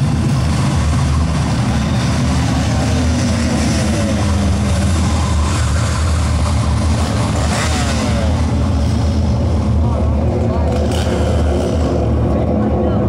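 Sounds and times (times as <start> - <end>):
low engine-like drone: 0.0 - 13.0.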